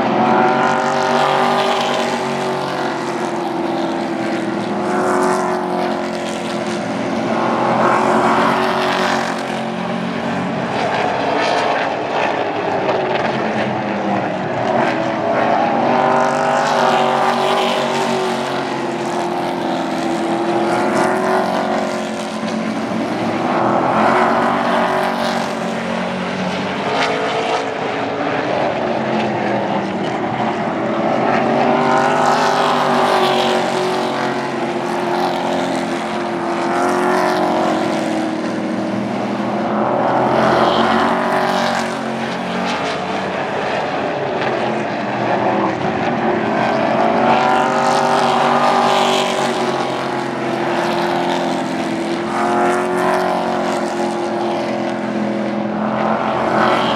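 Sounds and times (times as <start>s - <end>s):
race truck engines passing: 0.0s - 56.9s.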